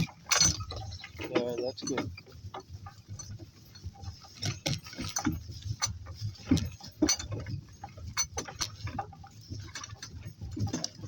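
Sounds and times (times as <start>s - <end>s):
footsteps of person and donkeys: 0.0s - 11.0s.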